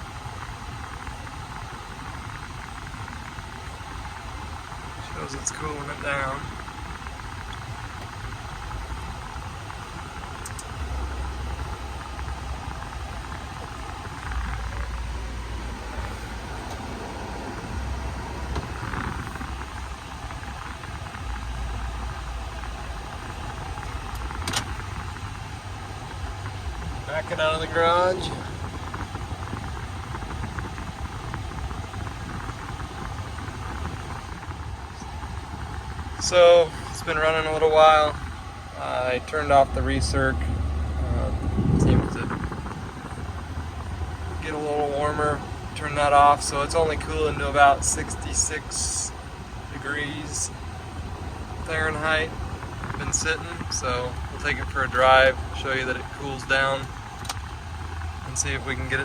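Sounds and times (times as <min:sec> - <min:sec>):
air conditioning blower rushing: 0:00.0 - 0:59.0
car engine idling: 0:00.0 - 0:59.0
rapid irregular light ticking: 0:00.0 - 0:59.0.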